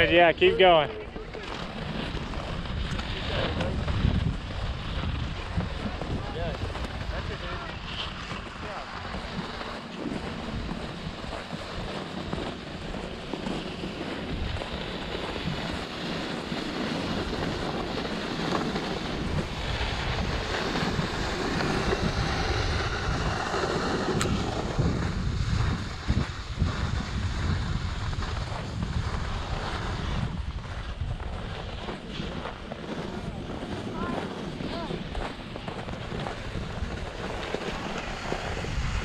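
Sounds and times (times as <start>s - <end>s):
snowboards scraping over snow: 0.0s - 39.0s
wind buffeting the microphone: 0.0s - 39.0s.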